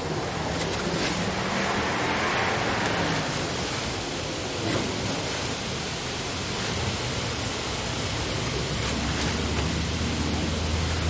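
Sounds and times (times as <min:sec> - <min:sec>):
low engine hum: 0:00.0 - 0:11.0
steady rushing noise: 0:00.0 - 0:11.0.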